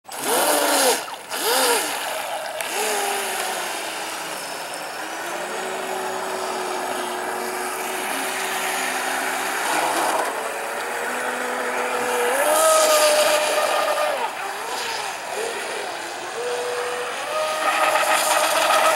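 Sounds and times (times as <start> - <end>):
electric motor whining: 0.1 - 18.9
hull and spray hiss: 0.6 - 18.9.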